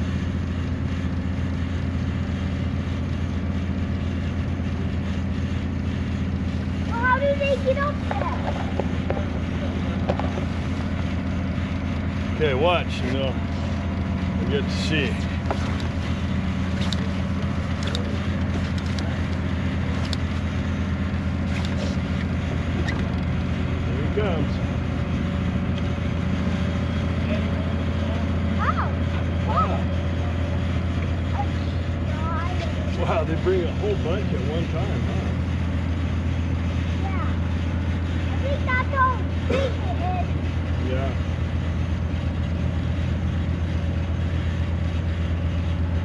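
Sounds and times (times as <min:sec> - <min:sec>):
large engine idling: 0:00.0 - 0:46.0.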